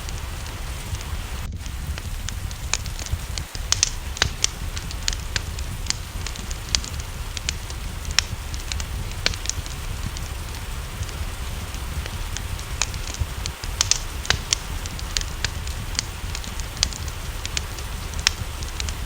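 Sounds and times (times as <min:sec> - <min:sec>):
low rumble: 0:00.0 - 0:19.0
rain hissing: 0:00.0 - 0:19.0
sharp pops of fire: 0:00.0 - 0:19.0
wood fire crackling: 0:00.0 - 0:19.0.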